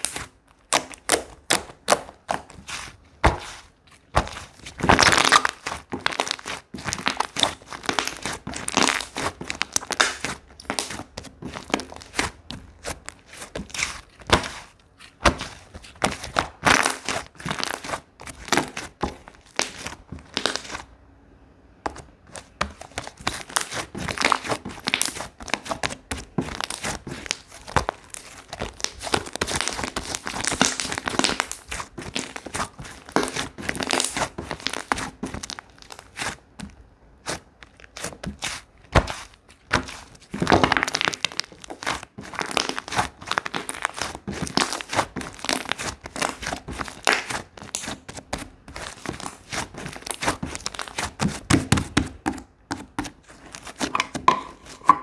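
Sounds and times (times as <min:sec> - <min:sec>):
slime crackling and popping: 0:00.0 - 0:20.9, 0:22.0 - 0:52.0.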